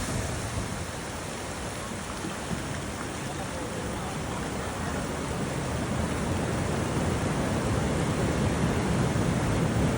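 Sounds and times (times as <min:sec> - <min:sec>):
water rushing: 0:00.0 - 0:09.9.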